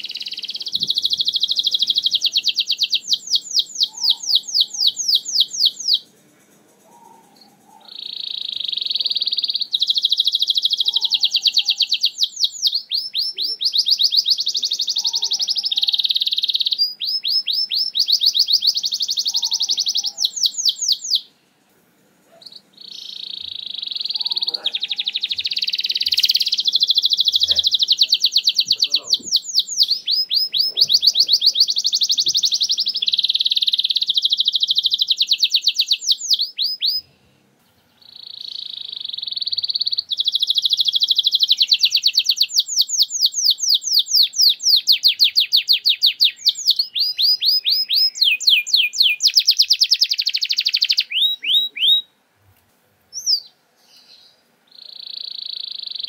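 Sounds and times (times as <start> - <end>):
canary singing rapid trills: 0.0 - 21.3, 22.3 - 37.1, 37.9 - 52.1, 53.1 - 56.0.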